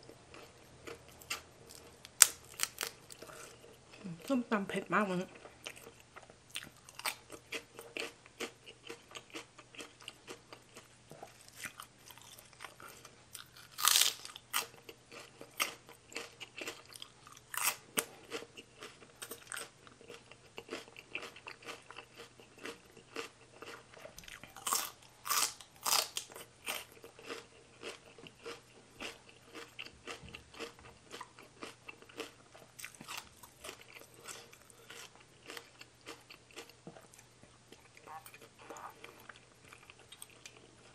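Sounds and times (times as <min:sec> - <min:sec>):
chewing crisp raw vegetables: 0:00.0 - 0:04.4, 0:05.0 - 0:40.9.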